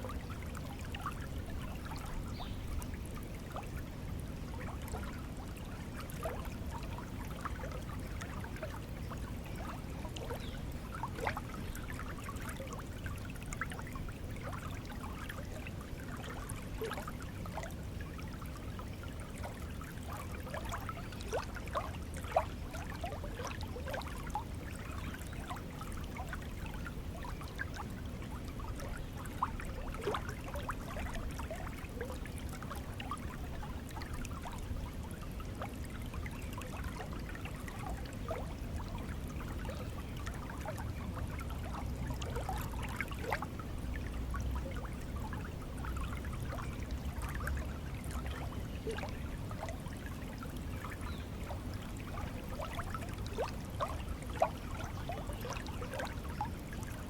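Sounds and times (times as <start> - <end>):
shallow water flowing: 0.0 - 57.0
water gurgling and trickling: 0.0 - 57.0.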